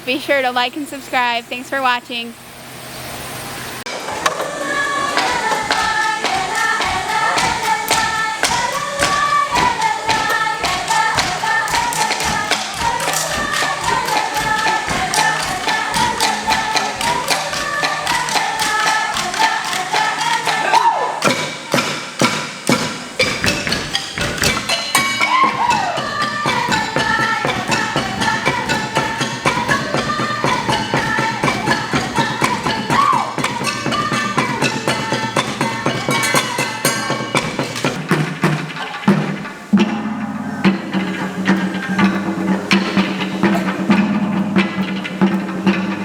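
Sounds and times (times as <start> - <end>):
music with percussive beat: 3.9 - 46.0.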